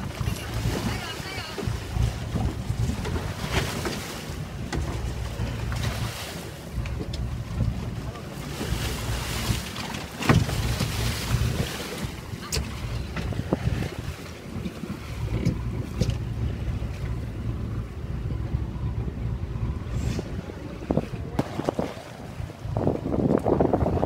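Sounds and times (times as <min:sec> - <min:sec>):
wind on microphone: 0:00.0 - 0:06.2, 0:10.3 - 0:18.9, 0:19.5 - 0:24.0
steady low rumble: 0:00.0 - 0:09.7, 0:10.3 - 0:24.0.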